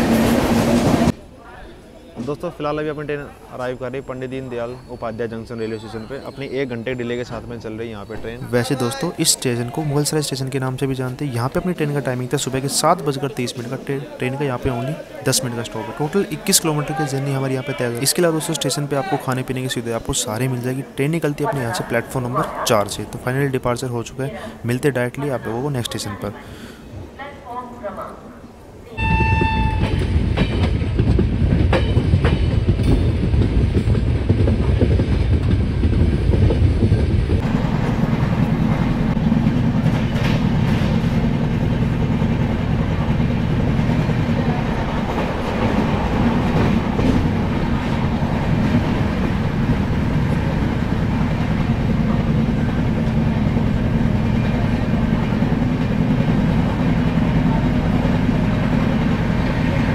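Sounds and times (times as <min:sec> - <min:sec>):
train rumbling on track: 0:00.0 - 0:01.3, 0:02.2 - 0:25.2, 0:29.0 - 0:59.9.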